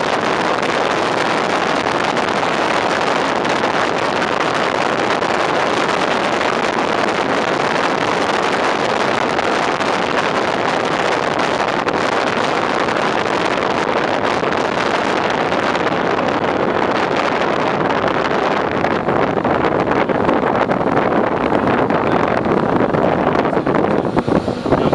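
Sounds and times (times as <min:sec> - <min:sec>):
road noise: 0:00.0 - 0:24.9
wind rushing: 0:00.0 - 0:24.9.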